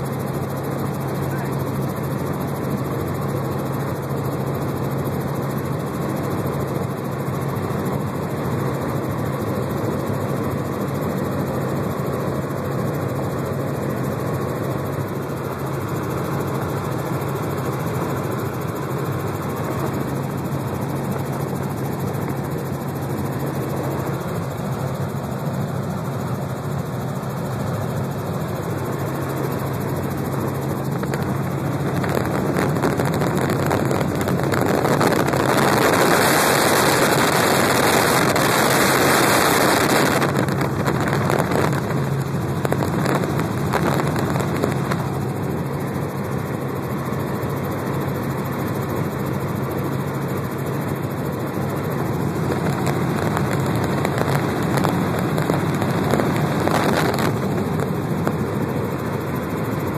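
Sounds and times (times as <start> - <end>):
helicopter engine and rotor roar: 0.0 - 59.9.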